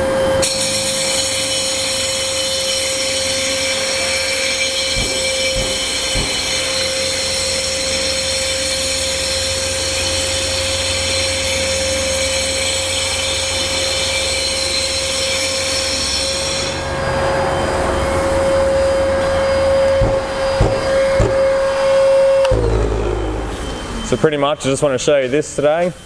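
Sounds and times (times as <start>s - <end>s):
concrete floor grinder whine: 0.0s - 26.0s
dust extractor vacuum running: 0.0s - 26.0s.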